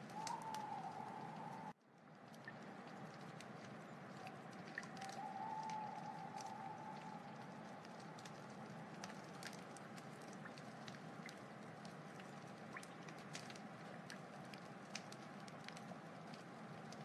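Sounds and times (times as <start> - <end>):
wood fire pops and snaps: 0.0 - 1.5, 2.2 - 17.0
soft steady fire hiss: 0.0 - 17.0.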